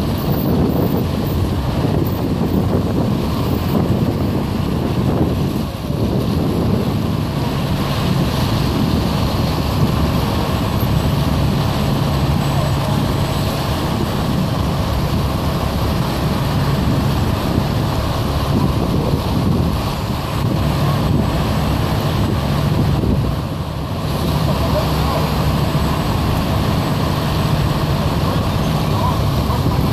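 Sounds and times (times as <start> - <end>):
low engine hum: 0.0 - 29.9
vehicles rumbling: 0.0 - 29.9
wind buffeting microphone: 0.0 - 29.9.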